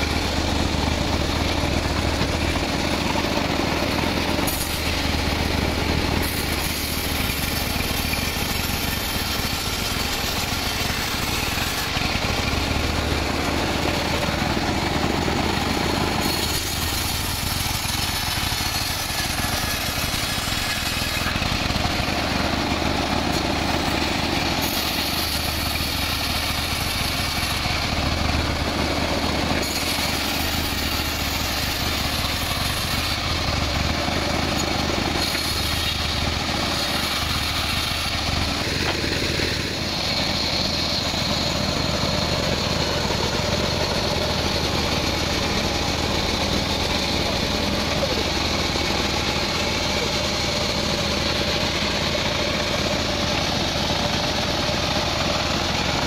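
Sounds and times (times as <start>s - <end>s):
band saw cutting log: 0.0s - 56.0s.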